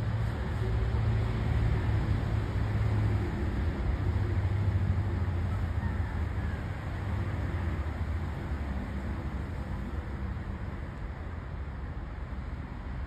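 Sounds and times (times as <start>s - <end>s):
outdoor background rumble and hiss: 0.0s - 13.0s.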